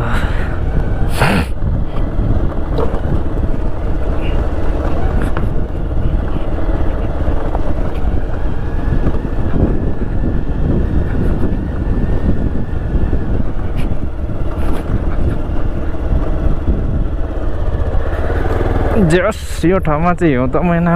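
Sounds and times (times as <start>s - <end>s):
wind noise on microphone: 0.0s - 18.9s
motorcycle riding: 0.0s - 20.9s.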